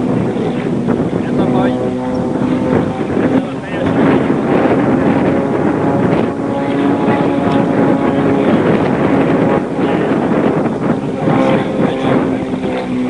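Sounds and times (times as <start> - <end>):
plane engine and propeller: 0.0 - 13.0
wind on microphone: 0.0 - 13.0.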